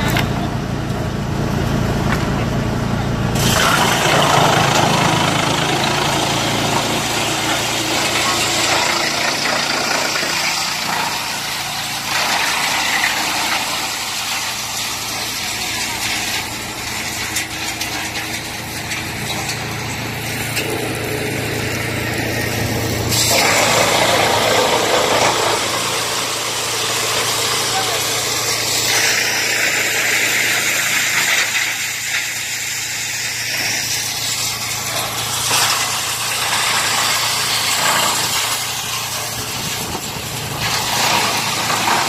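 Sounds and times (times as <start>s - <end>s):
wood chipper humming: 0.0s - 42.0s
wood crackling through chipper: 3.4s - 42.0s.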